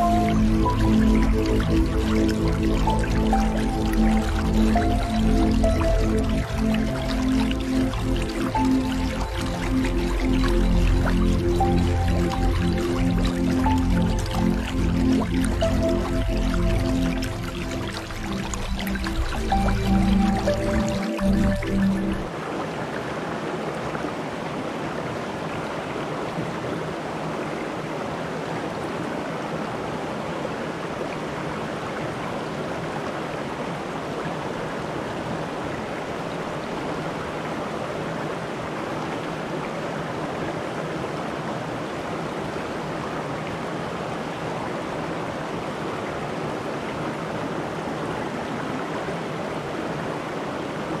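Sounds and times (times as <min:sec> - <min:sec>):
stream rushing over stones: 0:00.0 - 0:51.0.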